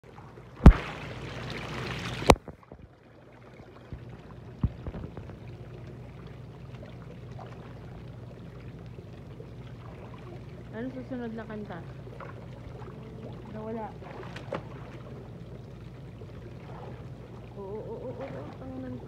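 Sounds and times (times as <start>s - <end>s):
hot tub water bubbling: 0.0s - 19.0s
low hum: 0.0s - 19.0s.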